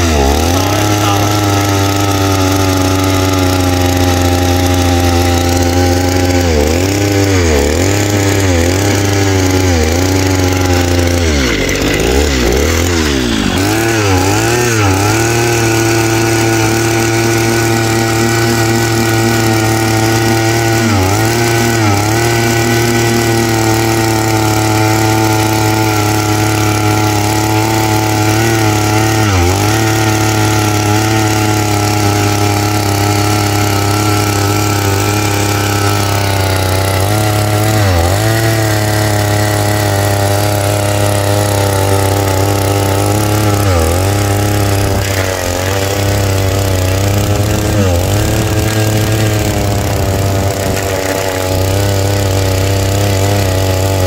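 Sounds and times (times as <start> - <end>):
two-stroke earth auger drilling: 0.0 - 54.0.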